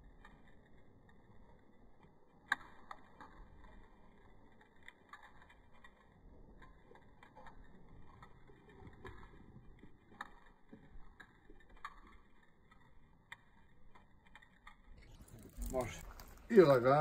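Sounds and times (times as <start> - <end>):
burning wood embers crackling: 0.0 - 17.0.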